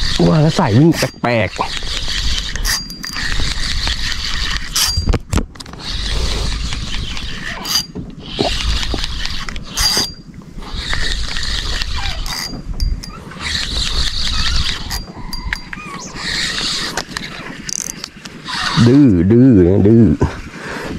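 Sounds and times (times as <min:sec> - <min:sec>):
fishing reel whirring: 0:00.0 - 0:19.2.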